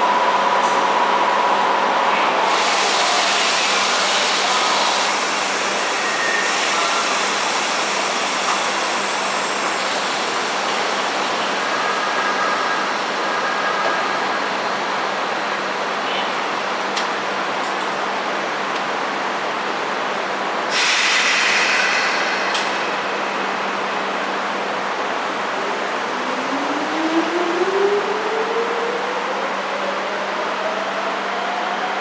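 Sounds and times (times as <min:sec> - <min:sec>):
electric train rumbling past: 0:00.0 - 0:16.0, 0:20.6 - 0:32.0.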